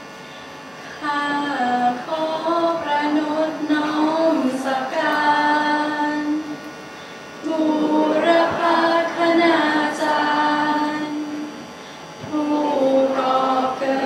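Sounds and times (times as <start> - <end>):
slow chant-like singing: 1.0 - 6.7, 7.4 - 14.0.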